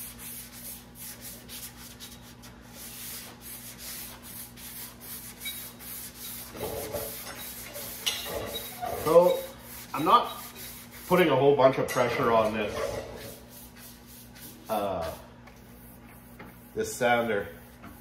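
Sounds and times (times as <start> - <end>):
sandpaper rubbing back and forth: 0.0 - 8.0, 8.7 - 11.4, 12.4 - 18.0.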